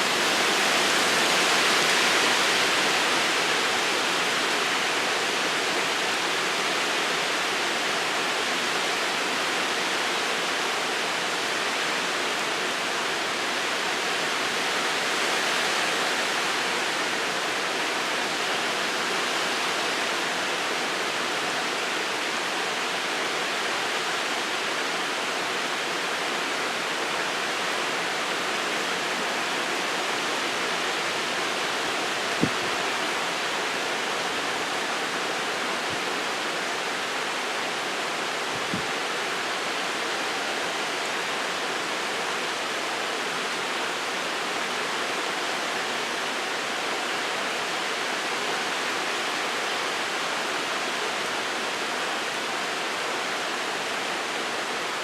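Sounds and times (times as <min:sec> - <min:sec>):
rain falling in wind: 0:00.0 - 0:55.0.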